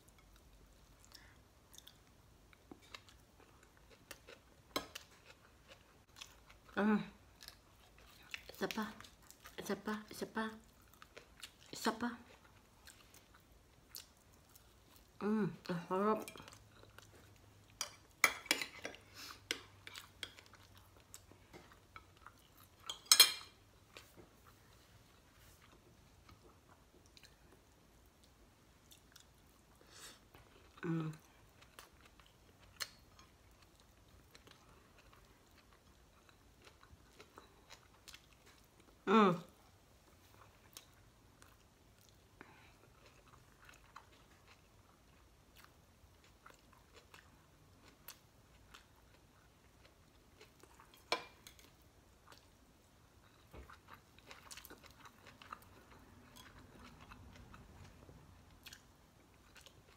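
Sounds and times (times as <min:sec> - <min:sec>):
chewing food: 0:00.0 - 0:39.0, 0:39.9 - 0:59.9.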